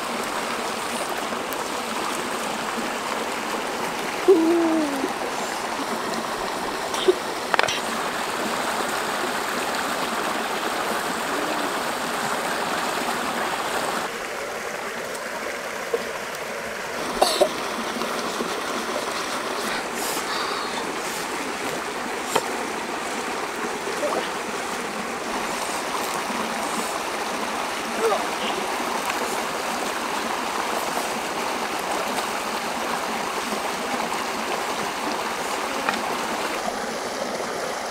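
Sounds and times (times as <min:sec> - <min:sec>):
stream running over rocks: 0:00.0 - 0:37.9.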